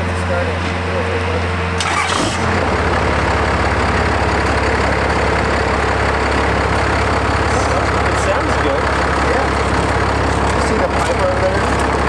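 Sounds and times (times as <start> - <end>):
diesel engine idling with clatter: 0.0 - 12.0.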